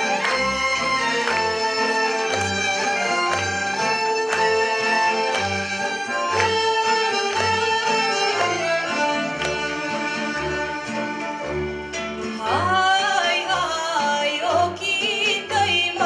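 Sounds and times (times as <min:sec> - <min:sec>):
double bass: 0:00.0 - 0:16.0
violins: 0:00.0 - 0:16.0.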